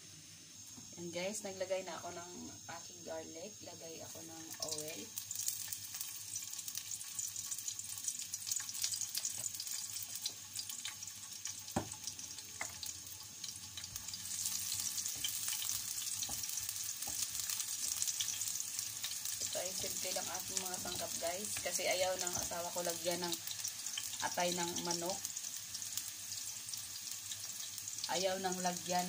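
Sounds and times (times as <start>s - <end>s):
garlic sizzling in oil: 0.0s - 29.0s.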